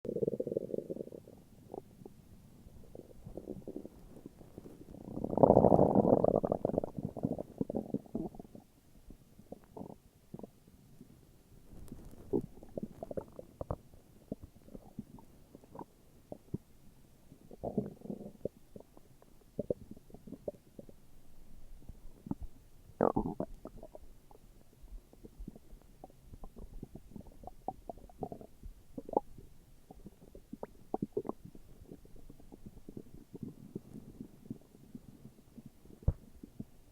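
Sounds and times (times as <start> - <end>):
stomach growling: 0.0 - 8.8, 9.4 - 10.6, 11.7 - 16.7, 17.3 - 21.0, 21.8 - 36.9.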